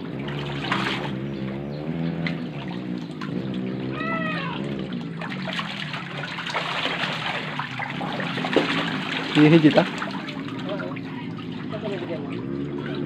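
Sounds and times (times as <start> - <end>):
low wavering drone: 0.0 - 13.0
water sloshing and splashing: 0.0 - 13.0.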